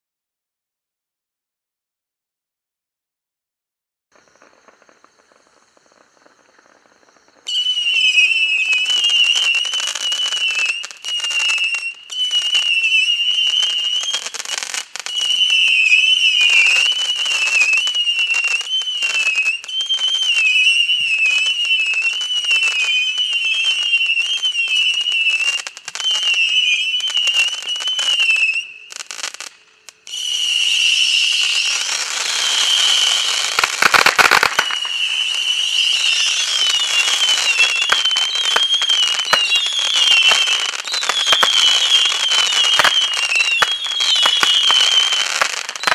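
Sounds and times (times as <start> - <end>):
fireworks whistling shots: 4.1 - 45.9
sizzling and crackling: 4.1 - 45.9.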